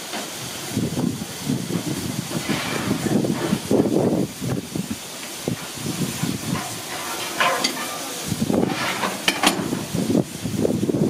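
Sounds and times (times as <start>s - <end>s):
steam hissing from hoses: 0.0s - 11.0s.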